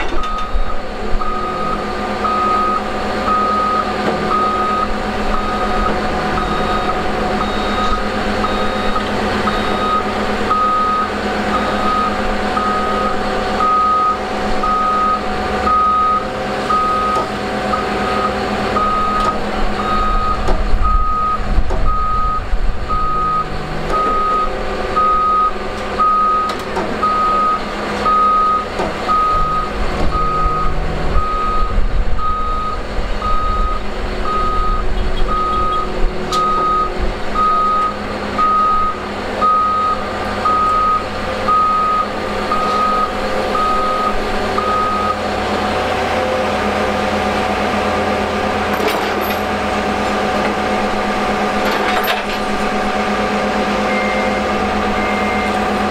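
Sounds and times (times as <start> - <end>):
diesel engine running: 0.0 - 55.9
reversing alarm beeping: 0.0 - 55.9.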